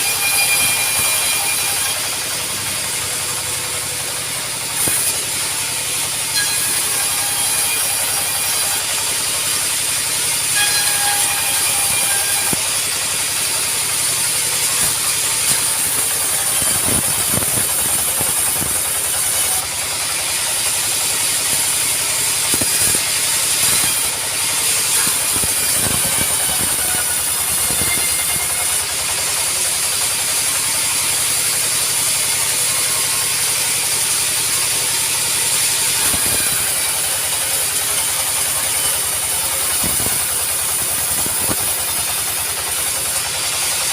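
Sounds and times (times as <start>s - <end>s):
sawmill machinery hissing: 0.0s - 43.9s.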